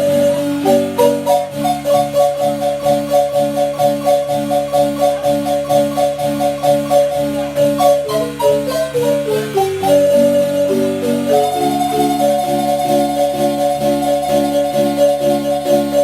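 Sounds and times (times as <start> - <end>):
bass line: 0.0 - 16.0
marimba playing: 0.0 - 16.0.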